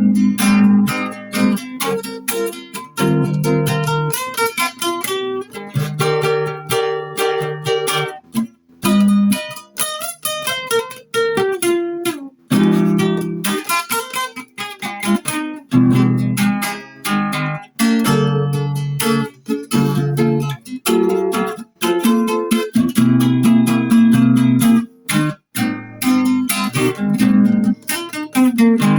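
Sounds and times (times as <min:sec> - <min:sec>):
solo guitar playing: 0:00.0 - 0:28.9.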